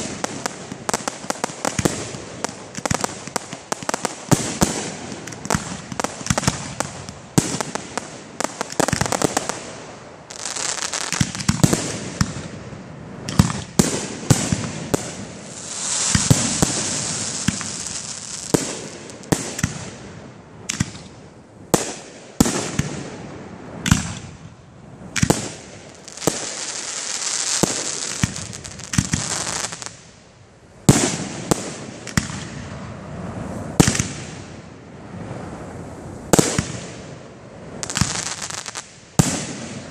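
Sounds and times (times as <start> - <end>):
hissing crackle of fireworks: 0.0 - 39.9.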